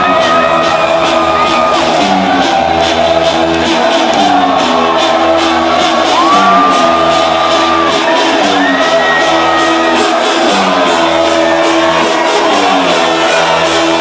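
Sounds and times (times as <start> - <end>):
electro house music: 0.0 - 14.0.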